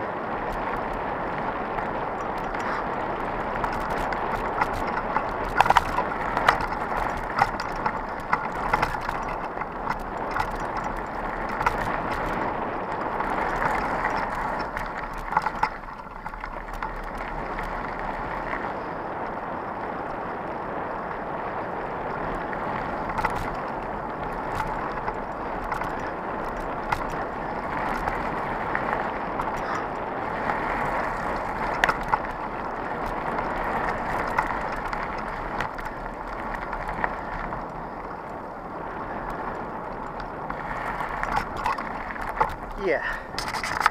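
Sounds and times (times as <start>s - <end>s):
bike clacking and rattling: 0.0s - 43.9s
tyre and wind rush: 0.0s - 43.9s.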